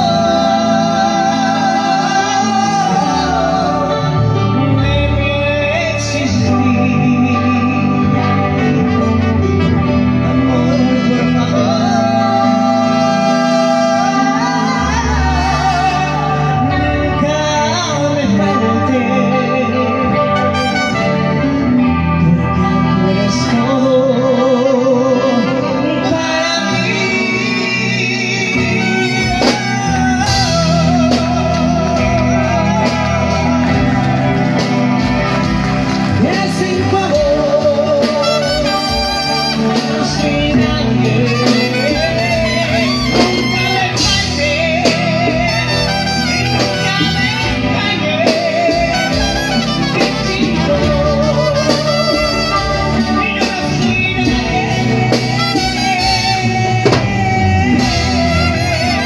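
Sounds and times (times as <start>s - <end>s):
drums: 0.0s - 59.0s
electric guitars: 0.0s - 59.0s
man singing into a microphone: 0.0s - 59.0s.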